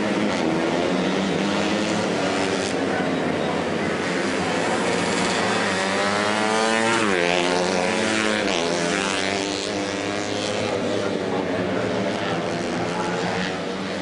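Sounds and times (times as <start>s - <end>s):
racing motorcycles revving past: 0.0s - 14.0s.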